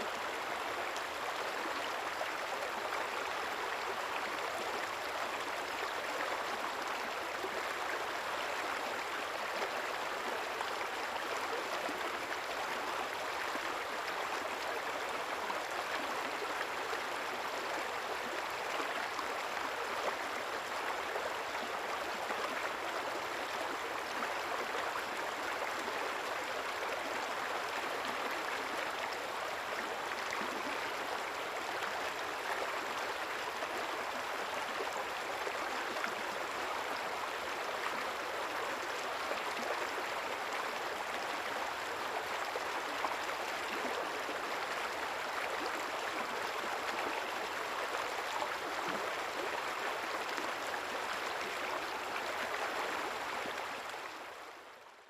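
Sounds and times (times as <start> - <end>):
shallow river water gurgling: 0.0 - 55.0.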